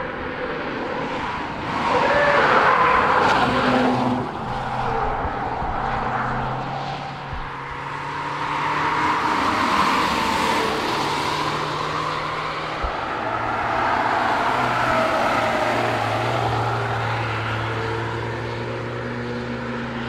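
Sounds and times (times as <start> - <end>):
tyre and road noise: 0.0 - 20.0.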